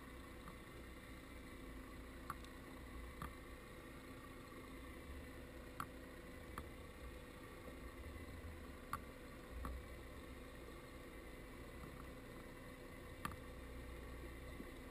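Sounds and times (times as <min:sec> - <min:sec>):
faint underwater hum: 0:00.0 - 0:14.9.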